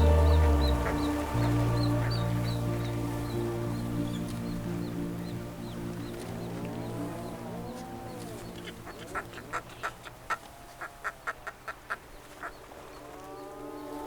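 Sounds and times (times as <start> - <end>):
soft sustained music tones: 0.0 - 10.7, 12.1 - 14.0.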